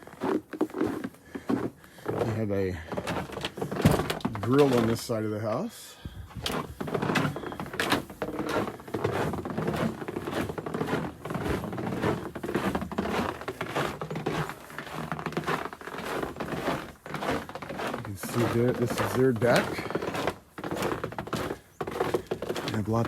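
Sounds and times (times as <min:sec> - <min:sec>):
footsteps crunching in snow: 0:00.0 - 0:05.6, 0:06.3 - 0:23.0.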